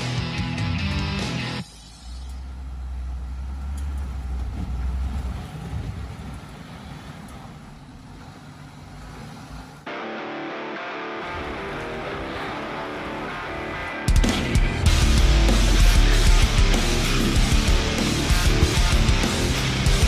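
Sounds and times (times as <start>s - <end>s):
vehicle engine rumble: 0.0s - 9.9s, 11.2s - 20.0s
rough uneven vehicle noise: 2.4s - 10.0s, 11.2s - 20.0s.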